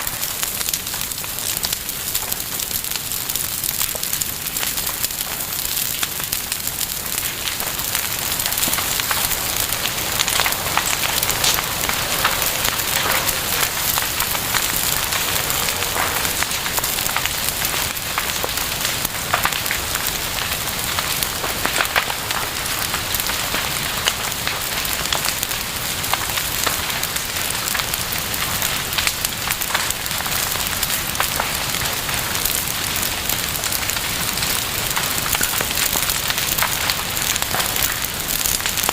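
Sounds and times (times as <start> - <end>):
wood crackling and popping: 0.0 - 38.9.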